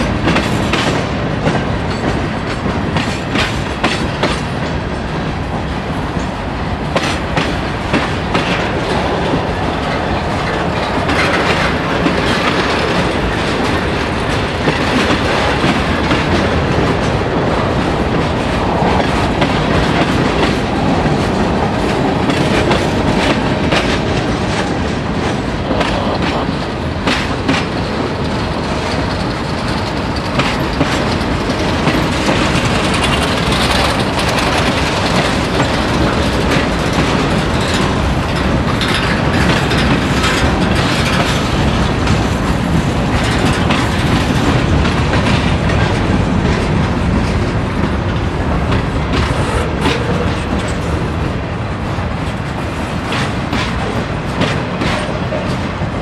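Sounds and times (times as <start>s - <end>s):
steel wheels rumbling on rail: 0.0s - 56.0s
wheels clicking over rail joints: 0.0s - 56.0s.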